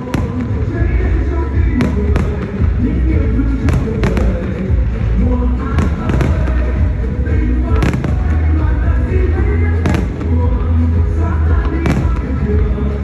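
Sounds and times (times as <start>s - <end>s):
fireworks bangs: 0.0s - 13.0s
loud music with heavy bass: 0.0s - 13.0s.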